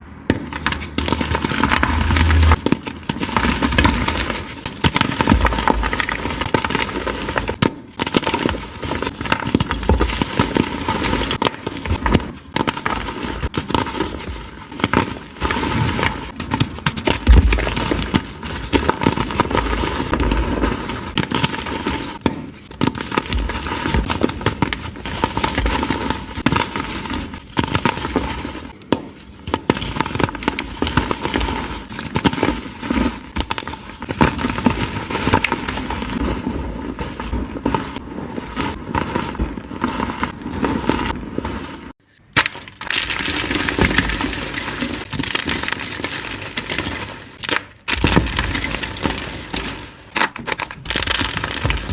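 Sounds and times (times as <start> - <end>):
chalk blocks crunching: 0.3 - 51.9.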